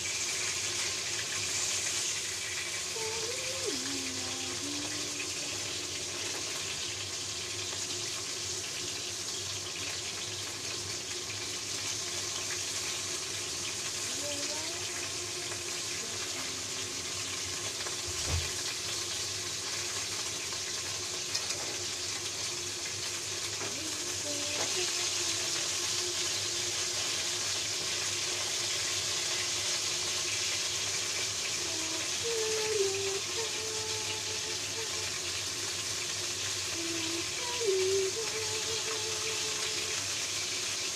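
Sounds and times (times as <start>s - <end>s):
fish frying in hot oil: 0.0s - 40.9s.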